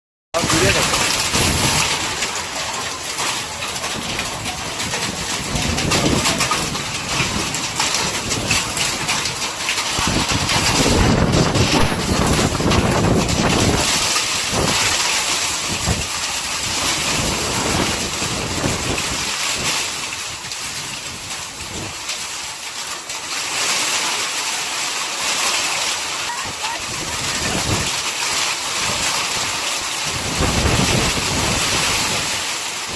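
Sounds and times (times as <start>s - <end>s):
wind buffeting microphone: 0.4s - 22.1s, 26.4s - 32.9s
hail falling heavily: 0.4s - 32.9s.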